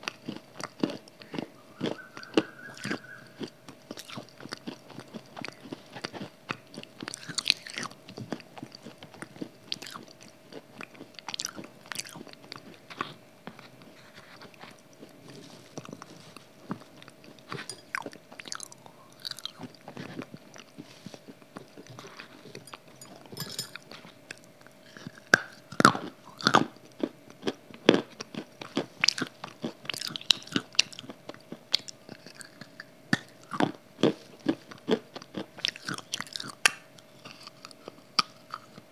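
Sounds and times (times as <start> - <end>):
biting and chewing clay: 0.0 - 38.9.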